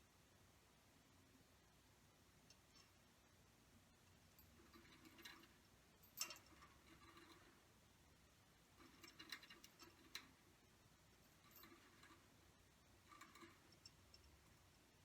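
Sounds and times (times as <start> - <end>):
faint small clicks and rustles: 2.2 - 15.0.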